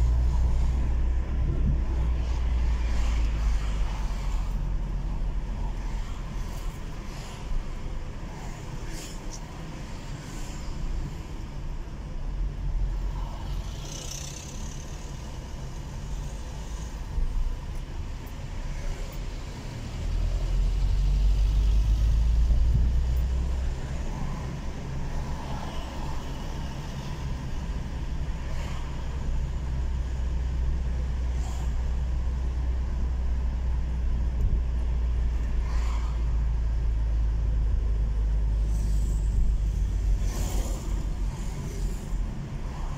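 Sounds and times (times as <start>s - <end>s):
car driving rumble from inside: 0.0s - 42.9s.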